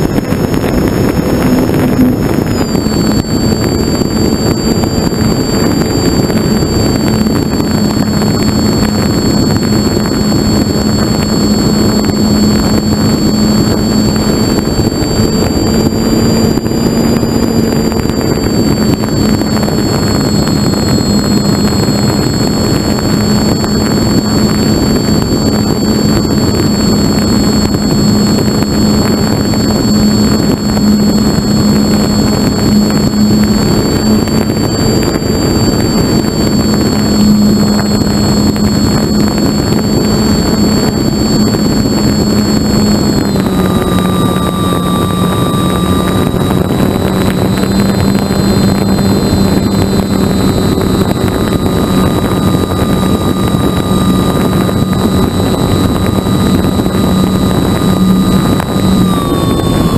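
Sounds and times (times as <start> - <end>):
model airplane motor whine: 0.0 - 59.9
rush of air: 0.0 - 59.9.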